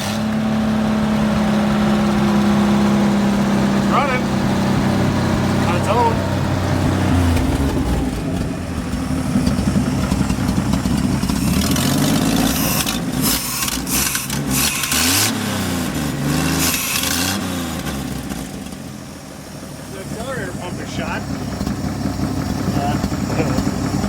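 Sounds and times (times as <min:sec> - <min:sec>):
truck engine running and revving: 0:00.0 - 0:24.0.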